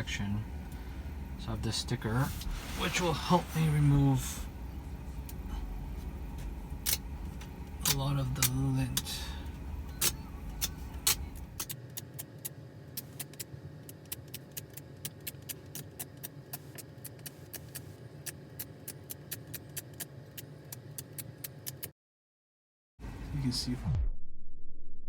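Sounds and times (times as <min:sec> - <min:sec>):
low steady hum: 0:00.0 - 0:21.7.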